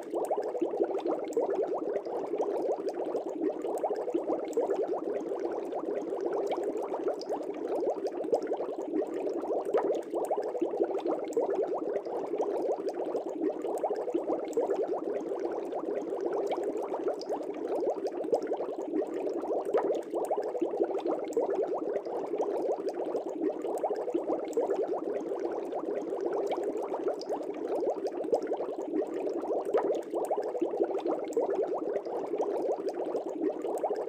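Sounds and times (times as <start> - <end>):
aquarium water bubbling: 0.0 - 34.0.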